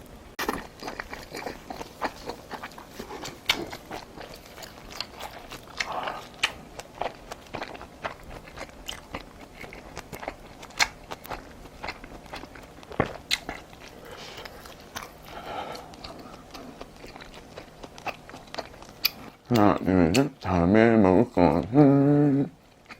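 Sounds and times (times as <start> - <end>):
wet mouth clicks and crunches: 0.4 - 20.3
chewing and biting food: 0.4 - 20.4, 22.6 - 22.9.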